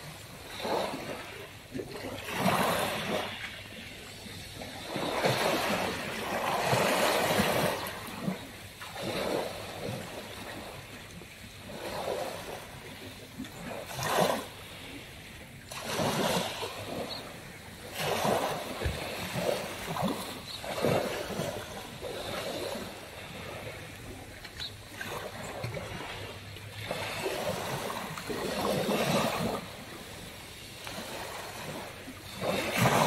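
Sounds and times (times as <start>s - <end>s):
waves washing up pebble beach: 0.0s - 10.9s, 11.6s - 15.0s, 15.6s - 33.0s.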